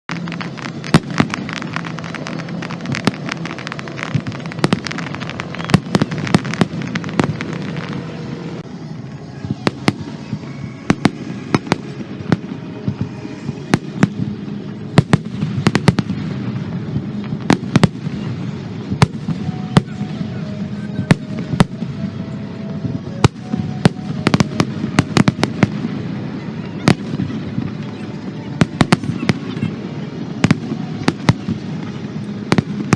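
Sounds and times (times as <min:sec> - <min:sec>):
fireworks bangs and crackling: 0:00.1 - 0:32.9
steady background hum: 0:00.1 - 0:32.9.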